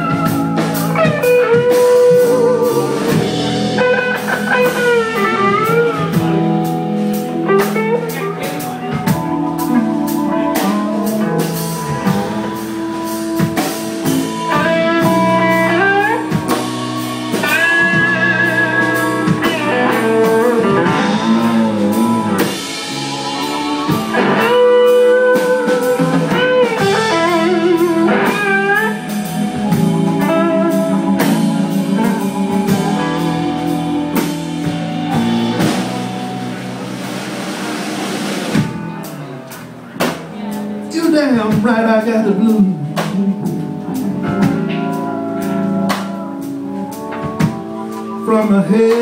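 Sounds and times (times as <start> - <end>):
drum kit steady beat: 0.0 - 49.0
electric guitar bending notes: 0.0 - 49.0.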